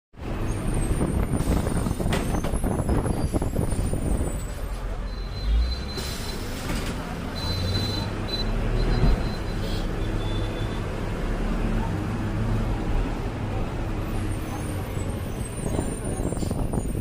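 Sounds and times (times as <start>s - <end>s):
road noise: 0.1s - 17.0s
bus engine rumble: 0.2s - 17.0s.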